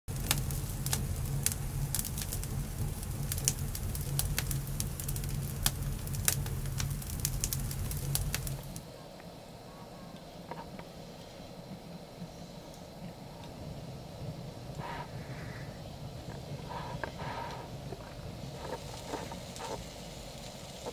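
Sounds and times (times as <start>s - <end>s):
wood fire crackling and popping: 0.1s - 8.9s, 12.7s - 20.9s
low rumble of flames: 0.1s - 20.9s.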